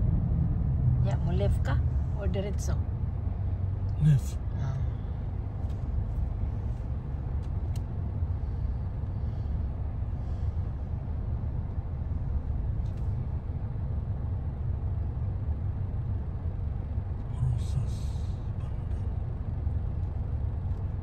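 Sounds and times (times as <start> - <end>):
car idling from inside: 0.0 - 21.0.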